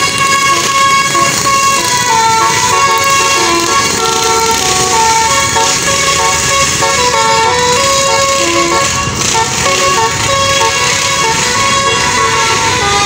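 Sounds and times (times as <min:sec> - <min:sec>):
bus air horn playing melody: 0:00.0 - 0:13.0.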